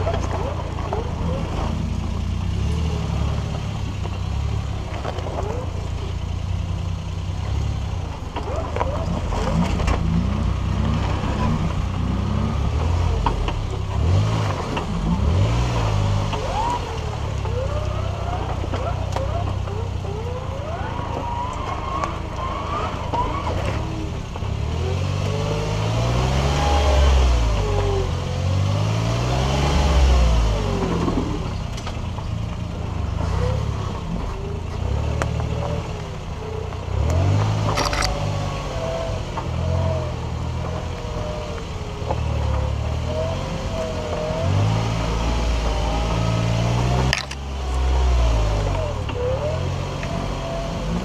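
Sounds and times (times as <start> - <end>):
car engine revving on rough track: 0.0 - 51.0.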